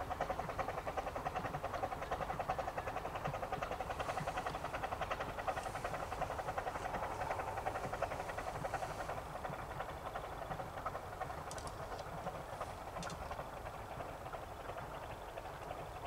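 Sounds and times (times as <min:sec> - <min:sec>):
steam locomotive running: 0:00.0 - 0:16.0.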